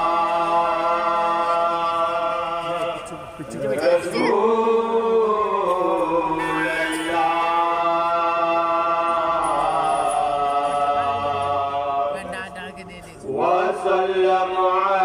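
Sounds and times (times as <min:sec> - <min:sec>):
man singing unaccompanied: 0:00.0 - 0:12.1, 0:13.3 - 0:15.0.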